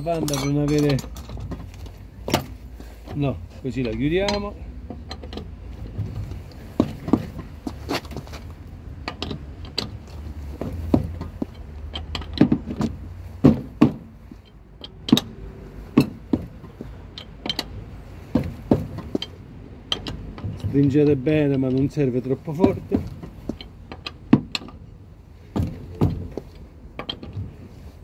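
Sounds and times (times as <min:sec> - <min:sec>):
lug wrench clicking on bolts: 0:00.0 - 0:22.0, 0:22.6 - 0:24.9, 0:25.6 - 0:27.5
low steady rumble: 0:00.0 - 0:28.0.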